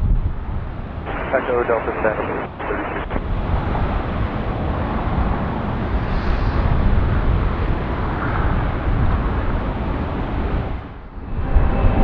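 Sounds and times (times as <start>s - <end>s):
jet engines rushing: 0.4s - 12.0s.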